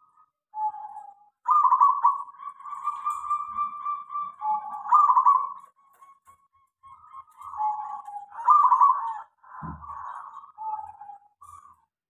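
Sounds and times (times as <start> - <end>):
dove cooing: 0.0 - 5.8, 6.9 - 11.8.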